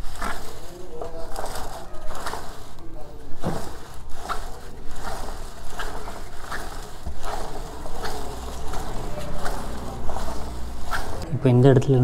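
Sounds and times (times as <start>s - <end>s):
rag wiping drive chain: 0.0s - 11.2s.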